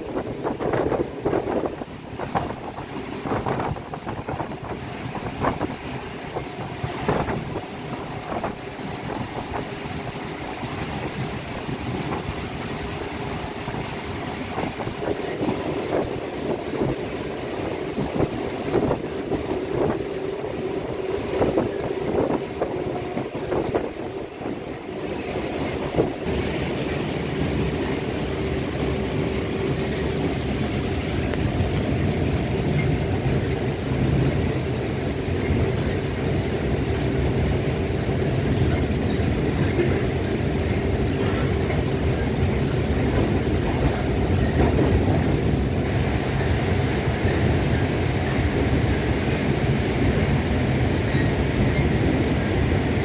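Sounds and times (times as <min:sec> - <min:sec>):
steady train hum: 0:00.0 - 0:53.0
train car knocks and rattles: 0:00.0 - 0:53.0
train wheels running on rails: 0:00.0 - 0:53.0.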